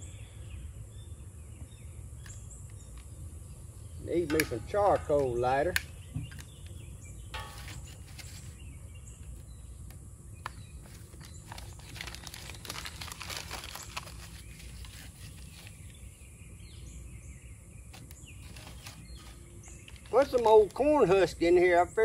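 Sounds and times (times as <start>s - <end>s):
dry husks rustling and crinkling: 2.3s - 16.3s, 17.8s - 22.0s.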